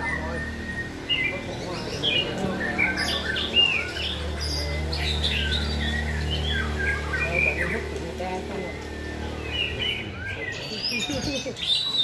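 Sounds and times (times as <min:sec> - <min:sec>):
birds singing whistles: 0:00.0 - 0:12.0.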